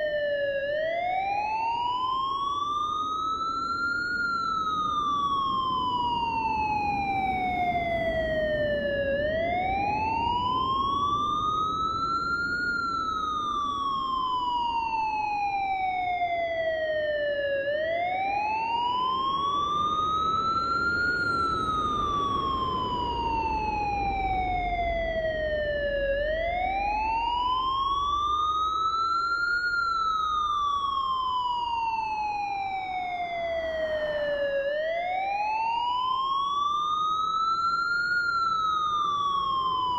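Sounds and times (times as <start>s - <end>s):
siren wailing: 0.0s - 39.9s.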